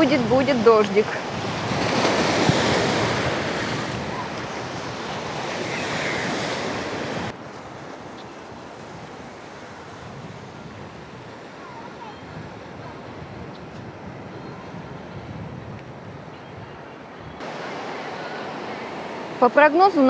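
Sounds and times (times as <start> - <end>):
sea surf breaking: 0.0 - 15.6, 17.4 - 20.0
wind buffeting microphone: 0.0 - 20.0.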